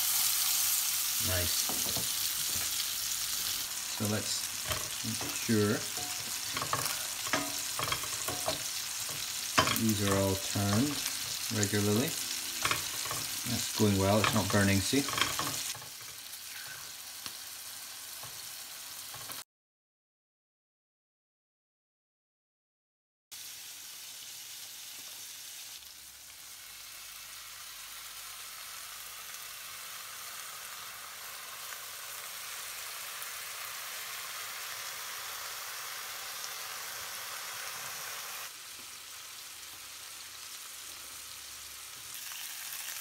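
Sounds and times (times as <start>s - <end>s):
sausages and bacon sizzling in pan: 0.0s - 19.4s, 23.3s - 43.0s.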